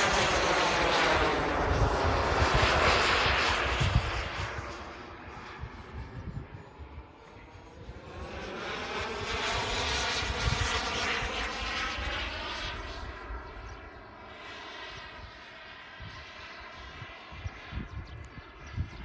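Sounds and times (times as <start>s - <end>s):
model jet turbine whine: 0.0s - 19.0s.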